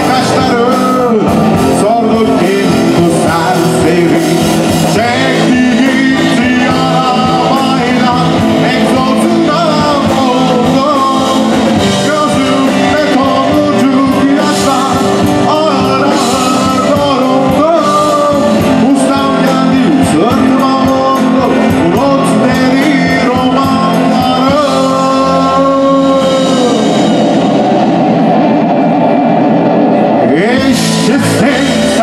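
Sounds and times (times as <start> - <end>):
man singing: 0.0 - 27.4, 30.2 - 32.0
live band playing: 0.0 - 32.0.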